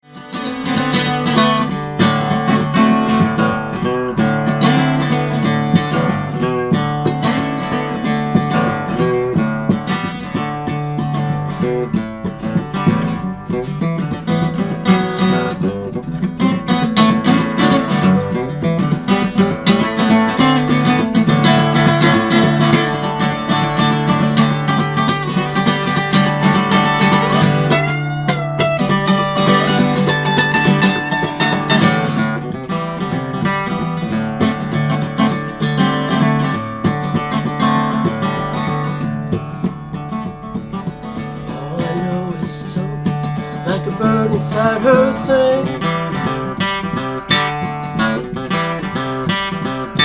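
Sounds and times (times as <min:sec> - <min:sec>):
acoustic guitar plucked notes: 0:00.0 - 0:50.0.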